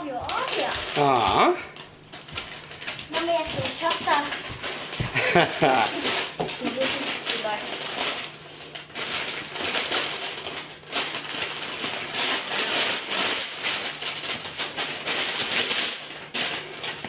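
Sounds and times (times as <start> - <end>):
wrapping paper tearing and crinkling: 0.0 - 17.0.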